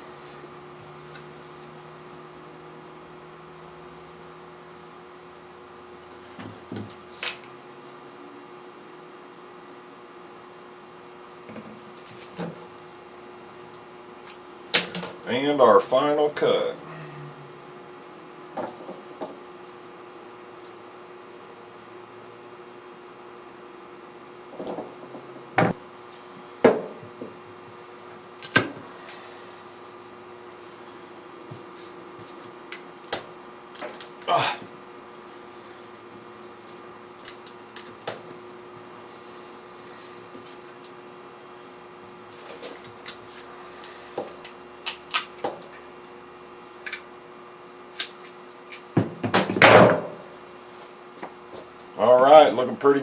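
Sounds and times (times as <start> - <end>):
steady hum: 0.0 - 53.0.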